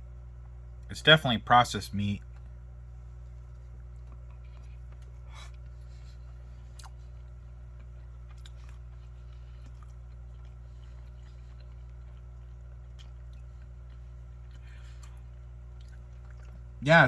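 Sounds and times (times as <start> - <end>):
person chewing: 2.2 - 16.8.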